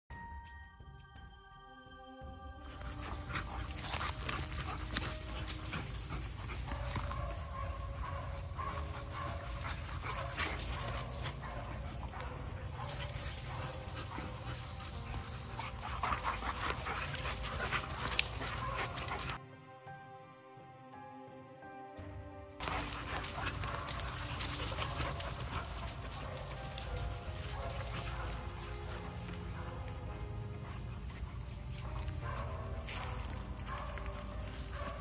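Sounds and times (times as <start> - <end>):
dogs panting hard: 2.7 - 19.4, 22.6 - 35.0
paws scuffling on dry leaves: 2.7 - 19.4, 22.6 - 35.0.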